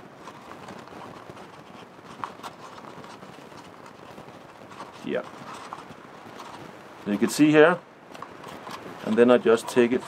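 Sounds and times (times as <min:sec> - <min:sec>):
bark strips scraping and clicking: 0:00.2 - 0:06.7, 0:08.1 - 0:10.0.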